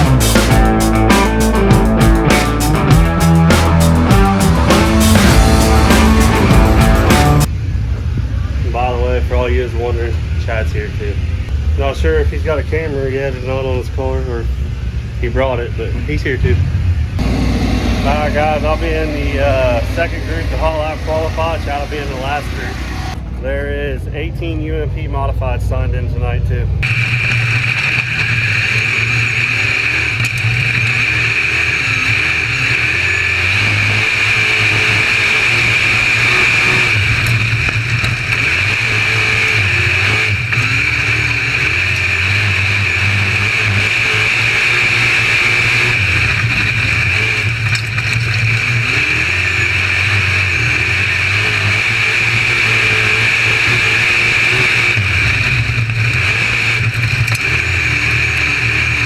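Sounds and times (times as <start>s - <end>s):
race car engine revving: 0.0s - 23.3s, 26.8s - 59.0s.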